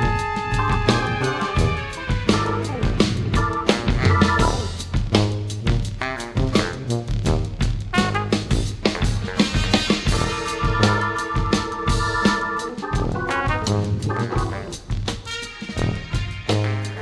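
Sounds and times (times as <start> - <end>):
drum kit: 0.0 - 17.0
jazz band with brass: 0.0 - 17.0.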